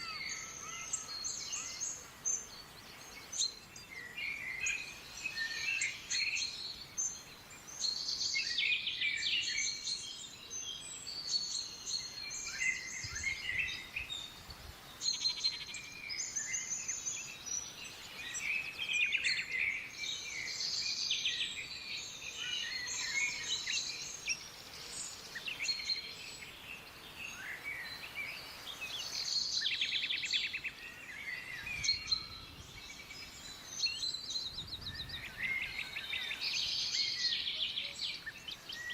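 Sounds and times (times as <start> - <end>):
forest birds chirping and trilling: 0.0 - 38.9.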